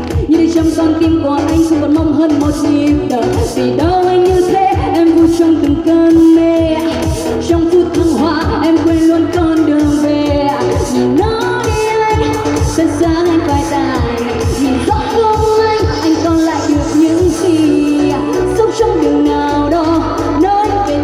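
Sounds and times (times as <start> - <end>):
backing track with drum beat: 0.0 - 21.0
person singing pop song: 0.0 - 21.0.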